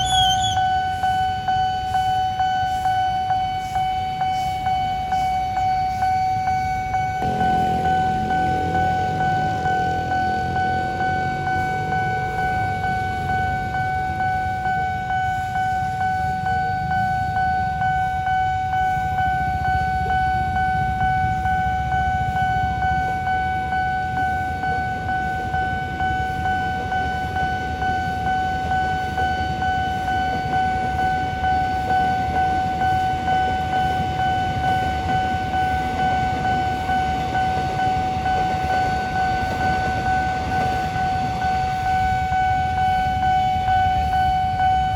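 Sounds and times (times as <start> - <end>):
passing train rumble: 0.0 - 44.9
railroad crossing warning bell: 0.0 - 44.9.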